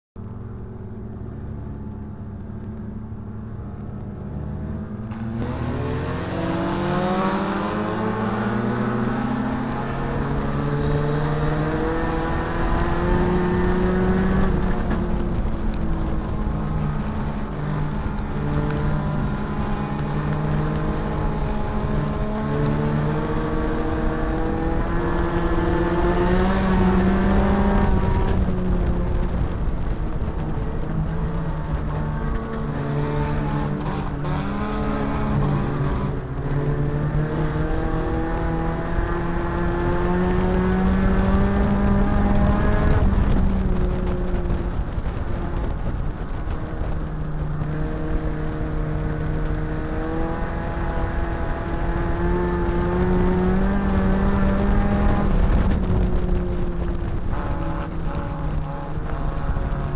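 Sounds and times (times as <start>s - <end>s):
race car engines revving: 0.2s - 59.9s.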